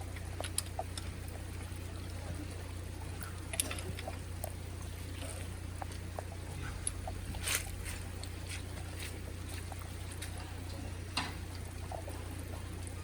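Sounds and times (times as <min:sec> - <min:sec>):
rain dripping: 0:00.0 - 0:13.0.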